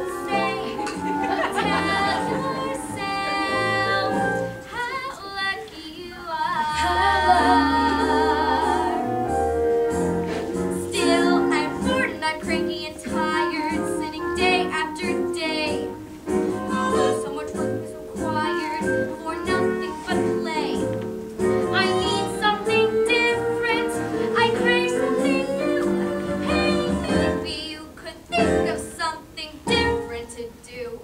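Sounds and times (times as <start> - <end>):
instrumental accompaniment: 0.0 - 4.9, 6.6 - 30.4
woman singing: 0.0 - 9.2, 10.7 - 16.0, 16.6 - 20.9, 21.7 - 31.0.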